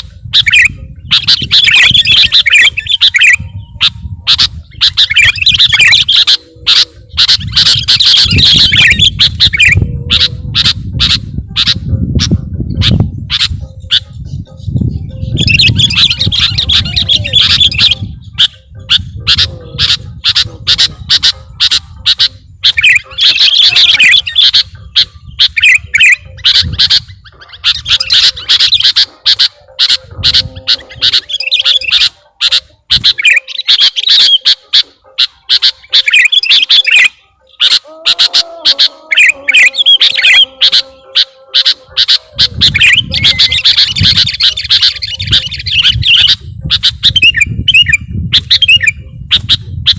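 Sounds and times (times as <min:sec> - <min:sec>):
bulbul singing chirps and squawks: 0:00.0 - 0:49.9.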